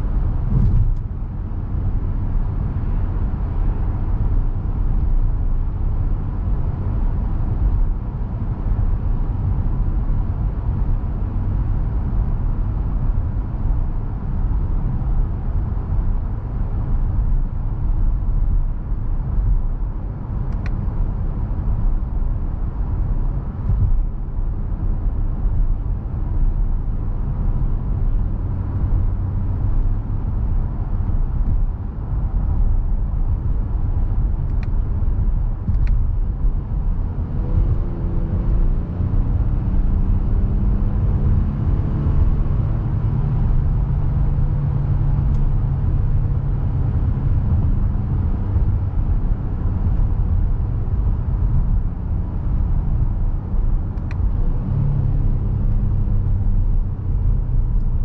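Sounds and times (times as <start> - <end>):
car engine running: 0.0 - 58.0
tyre and road noise: 0.0 - 58.0.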